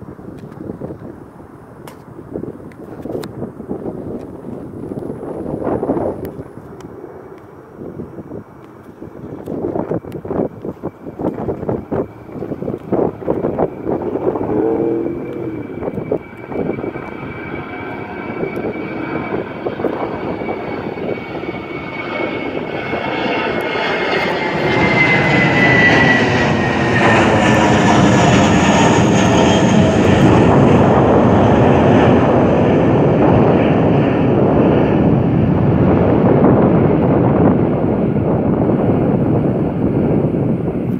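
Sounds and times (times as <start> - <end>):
high engine whine: 0.0 - 40.9
jet engine roar: 0.0 - 40.9
wind buffeting microphone: 0.0 - 40.9.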